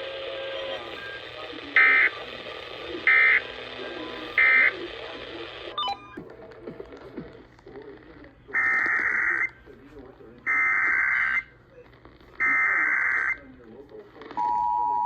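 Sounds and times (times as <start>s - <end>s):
faint radio hiss: 0.0s - 15.0s.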